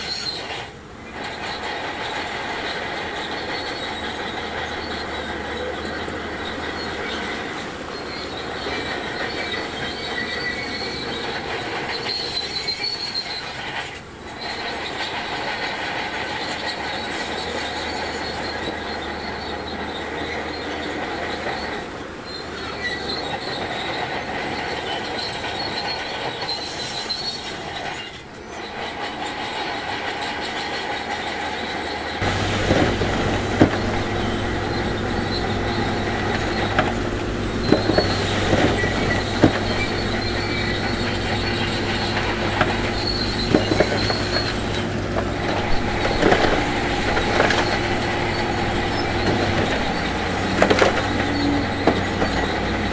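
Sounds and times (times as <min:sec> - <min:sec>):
bulldozer engine running: 0:00.0 - 0:27.3, 0:28.1 - 0:52.9
steel tracks squealing and clanking: 0:00.0 - 0:52.9.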